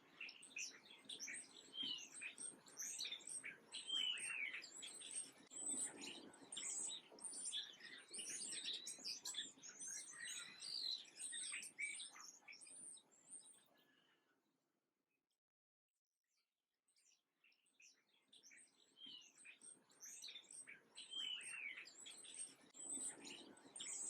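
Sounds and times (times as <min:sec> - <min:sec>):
small birds chirping: 0:00.0 - 0:14.3, 0:16.9 - 0:24.0.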